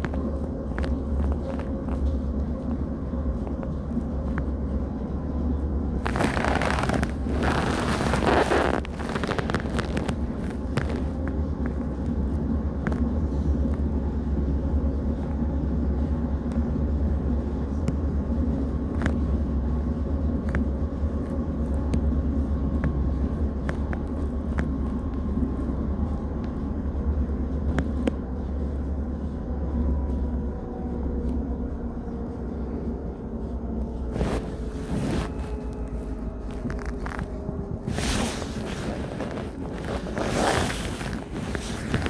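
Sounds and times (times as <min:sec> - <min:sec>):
faint hum: 0:00.0 - 0:42.0
train running noise: 0:00.0 - 0:42.0.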